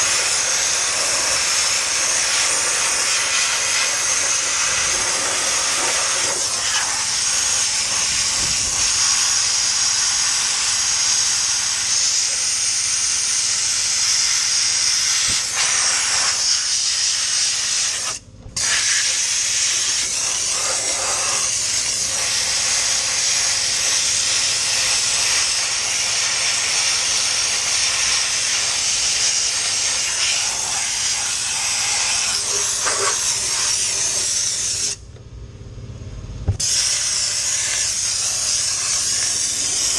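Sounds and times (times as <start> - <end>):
dry ice blasting hiss: 0.0 - 35.1, 36.5 - 39.9.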